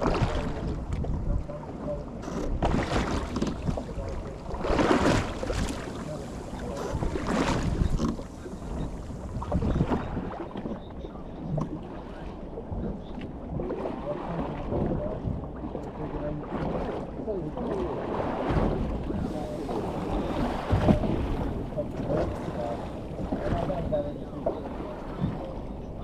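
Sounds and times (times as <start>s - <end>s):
water slapping against boat hull: 0.0s - 26.0s
wind on microphone: 0.0s - 26.0s.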